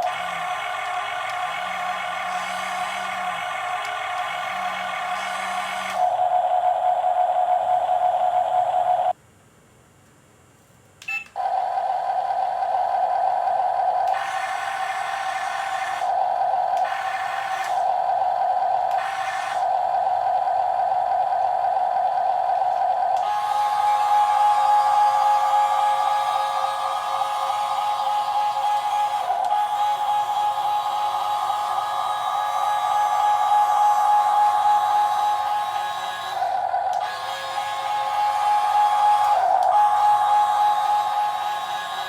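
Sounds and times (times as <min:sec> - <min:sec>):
electric gear motors whining: 0:00.0 - 0:09.1, 0:11.4 - 0:42.0
higher-pitched motor whine: 0:00.0 - 0:09.1, 0:11.4 - 0:42.0.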